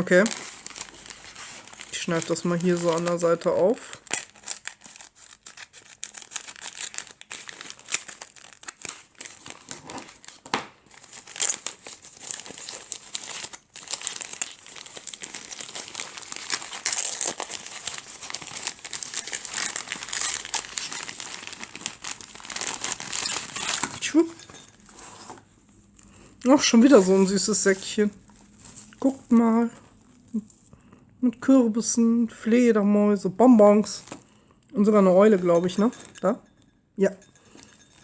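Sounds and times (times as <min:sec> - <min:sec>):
packaging tearing: 0:00.0 - 0:30.6, 0:33.8 - 0:34.4
packaging crackling and rustling: 0:00.0 - 0:30.7, 0:33.6 - 0:36.3, 0:37.3 - 0:38.0.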